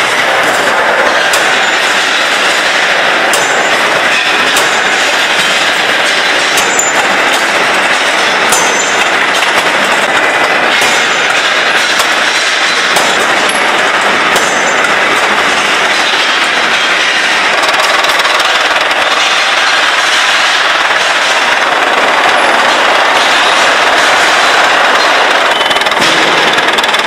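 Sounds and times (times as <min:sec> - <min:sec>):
factory machinery running: 0:00.0 - 0:27.0
metallic rattling and clatter: 0:00.0 - 0:27.0.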